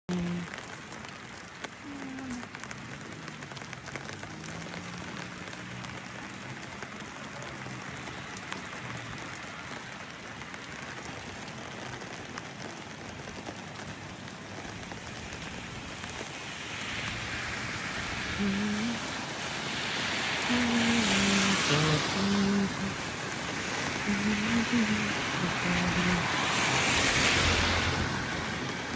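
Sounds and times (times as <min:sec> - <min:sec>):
raindrop ticks: 0:00.1 - 0:28.9
steady rain falling: 0:00.1 - 0:28.9.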